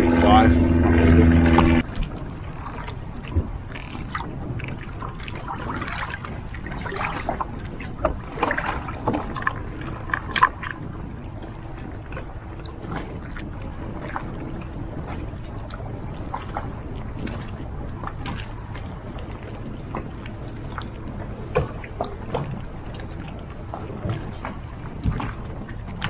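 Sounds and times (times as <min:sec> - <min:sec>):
wind and water rumble: 0:00.0 - 0:26.0.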